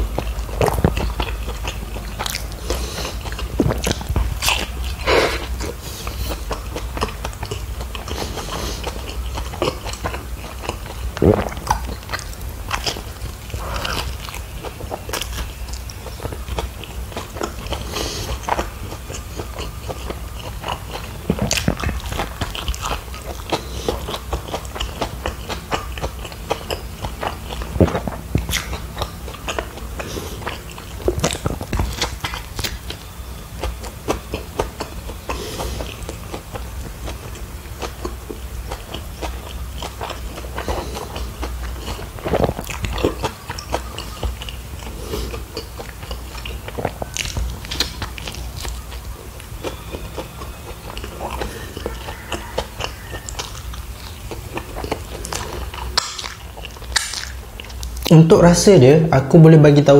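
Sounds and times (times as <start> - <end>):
person chewing food: 0.0 - 58.5.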